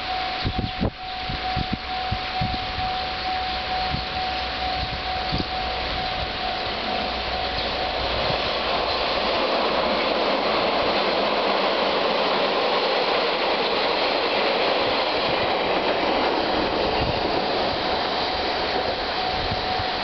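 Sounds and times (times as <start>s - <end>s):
diesel train engine and wheels: 0.0s - 20.0s.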